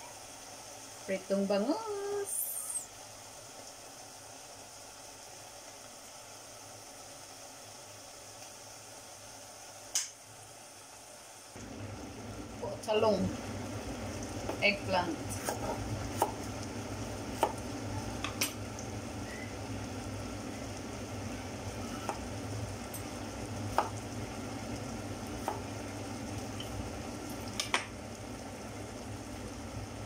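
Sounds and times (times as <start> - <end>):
steaming pot hissing: 0.0 - 30.0.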